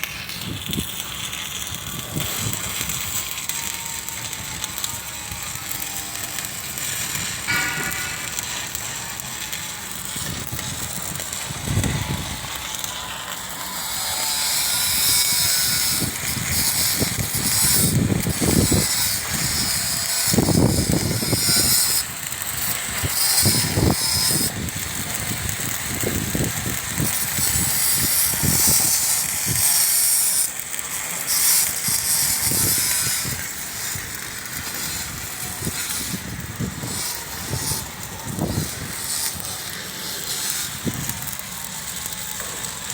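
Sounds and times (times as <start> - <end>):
arc welding crackle: 0.0 - 42.9.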